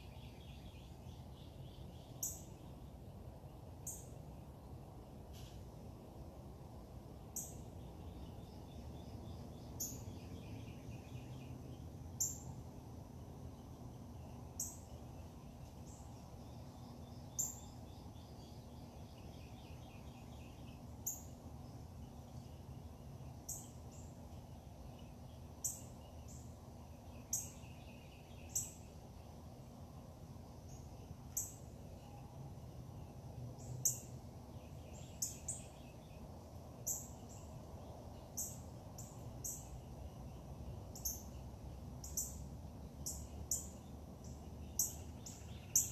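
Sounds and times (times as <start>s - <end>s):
low background rumble: 0.0s - 45.9s.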